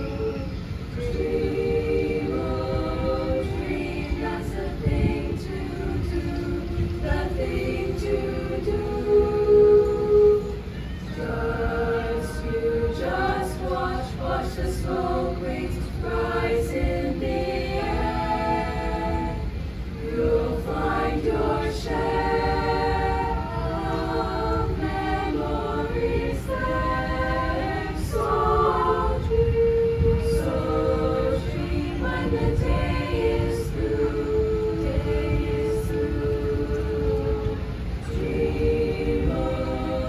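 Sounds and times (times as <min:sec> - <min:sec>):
steady low rumble: 0:00.0 - 0:10.7, 0:11.3 - 0:40.0
choir singing a cappella: 0:00.0 - 0:40.0.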